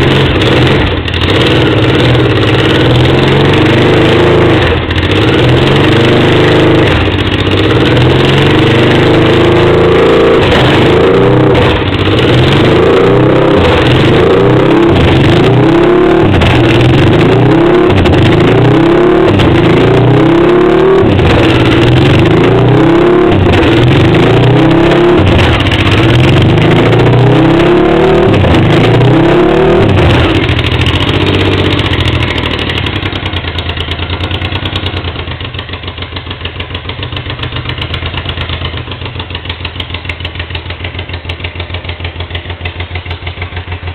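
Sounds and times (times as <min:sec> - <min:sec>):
motorcycle engine revving and idling: 0:00.0 - 0:43.9.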